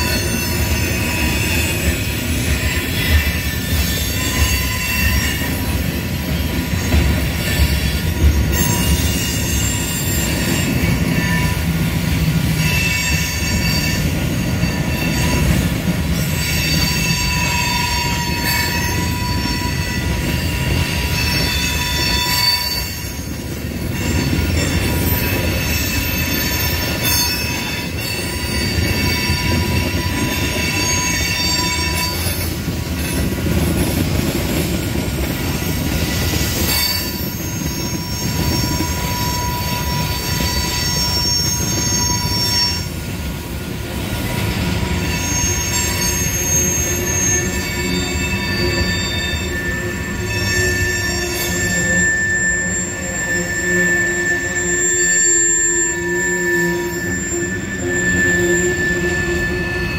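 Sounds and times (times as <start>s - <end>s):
high-pitched wheel squeal: 0.0s - 34.7s, 35.4s - 43.3s, 44.3s - 59.9s
freight train wheels rumbling: 0.0s - 59.9s.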